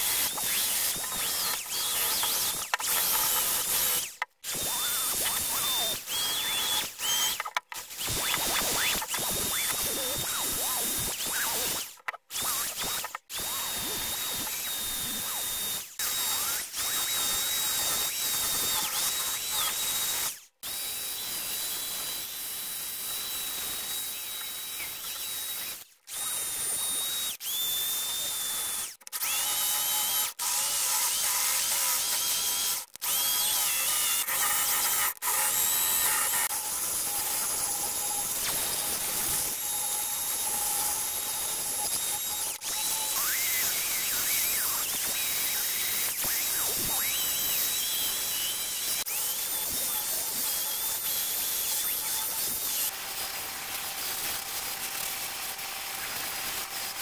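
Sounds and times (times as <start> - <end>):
drill motor whine: 0.0 - 57.0.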